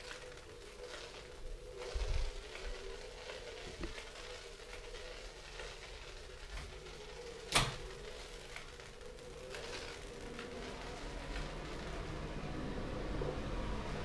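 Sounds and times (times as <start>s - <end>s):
electric board motor hum: 0.0s - 14.0s.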